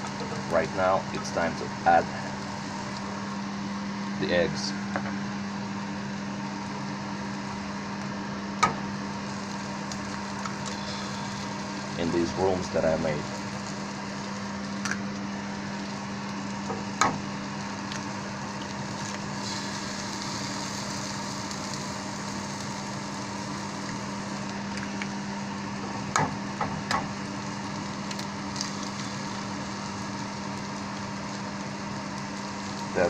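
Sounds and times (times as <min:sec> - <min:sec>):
constant low hum: 0:00.0 - 0:33.0
food sizzling in pan: 0:04.8 - 0:33.0.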